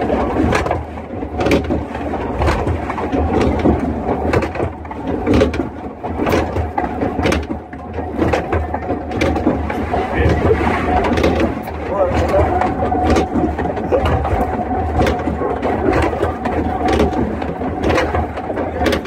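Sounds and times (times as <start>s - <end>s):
log flume lift rumbling: 0.0s - 19.0s.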